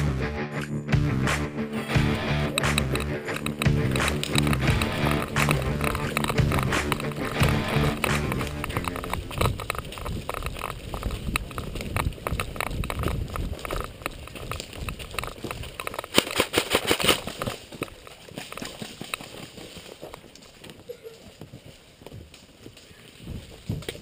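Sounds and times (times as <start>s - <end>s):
footsteps crunching underfoot: 1.0s - 24.0s.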